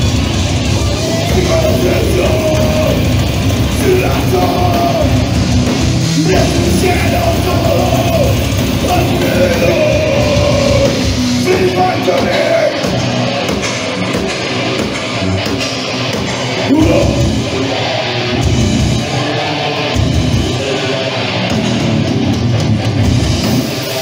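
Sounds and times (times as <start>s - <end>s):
heavy metal band playing live: 0.0s - 24.0s.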